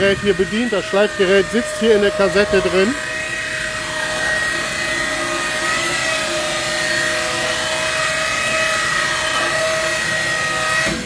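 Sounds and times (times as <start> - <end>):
knife grinder grinding metal: 0.0 - 11.0.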